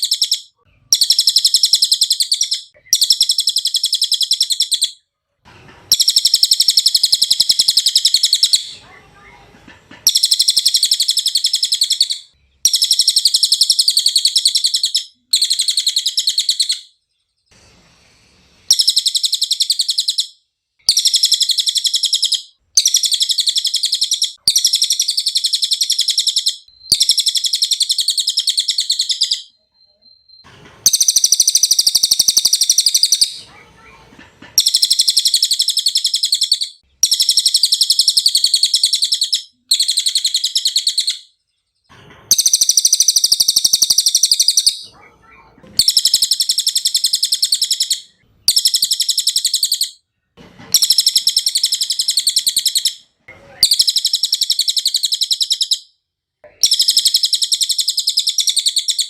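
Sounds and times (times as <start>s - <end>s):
parrot twittering song: 0.0s - 5.0s, 5.9s - 8.9s, 10.0s - 17.0s, 18.7s - 41.4s, 42.3s - 45.1s, 45.7s - 50.0s, 50.7s - 55.9s, 56.6s - 59.0s.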